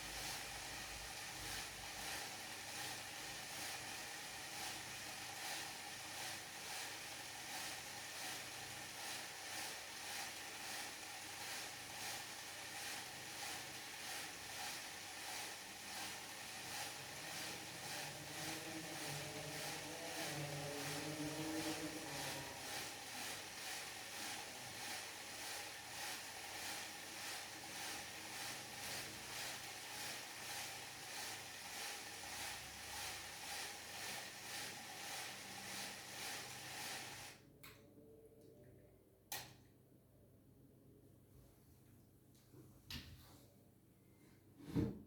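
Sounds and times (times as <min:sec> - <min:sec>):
small motor whine: 0:00.0 - 0:37.4.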